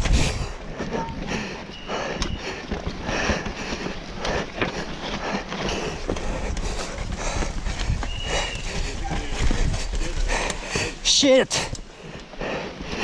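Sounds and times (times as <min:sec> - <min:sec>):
bike tyres on dirt and stones: 0:00.0 - 0:13.0.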